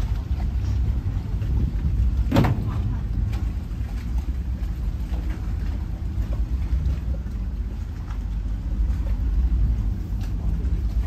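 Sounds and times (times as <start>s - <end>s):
ship engine rumbling: 0.0s - 11.0s.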